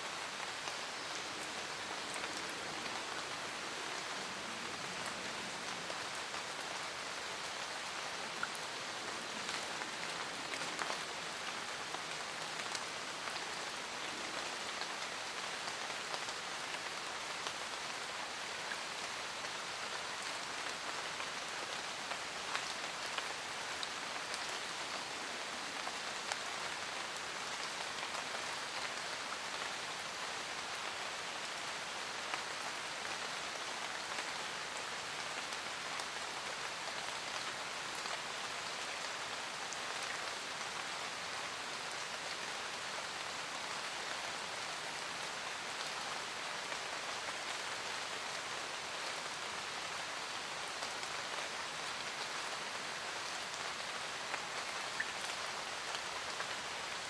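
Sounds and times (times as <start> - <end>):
rain pattering on a van roof: 0.1 - 57.0.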